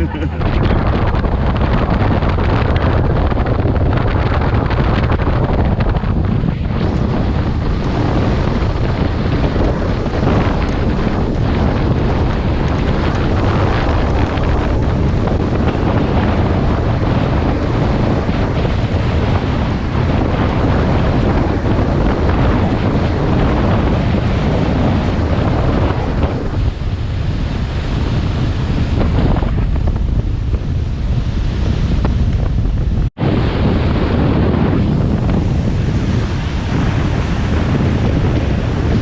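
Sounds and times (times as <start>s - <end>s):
water rushing past hull: 0.0s - 39.0s
wind buffeting microphone: 0.0s - 39.0s.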